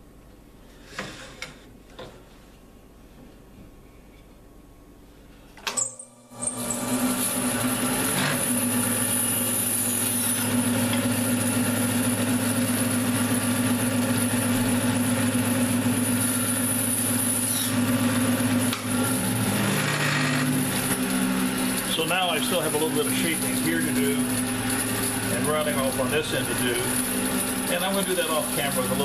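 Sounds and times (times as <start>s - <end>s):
bandsaw humming and whining: 5.7s - 29.0s.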